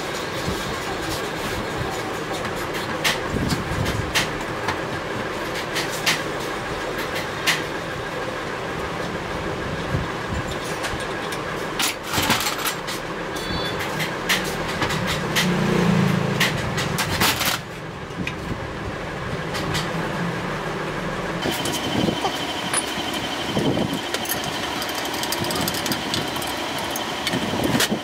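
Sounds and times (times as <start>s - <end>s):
workshop machinery hum: 0.0s - 28.0s.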